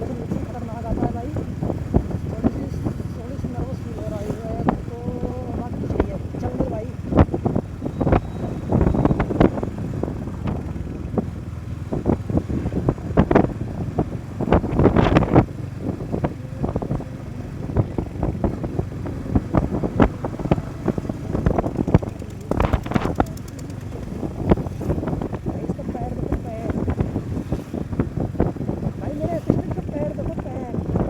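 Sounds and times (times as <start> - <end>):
motorcycle ride rumble: 0.0 - 31.0
wind buffeting microphone: 0.0 - 31.0.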